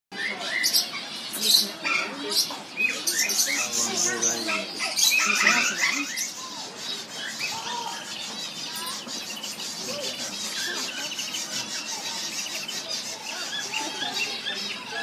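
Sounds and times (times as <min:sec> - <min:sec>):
small birds chirping and chattering: 0:00.1 - 0:15.0.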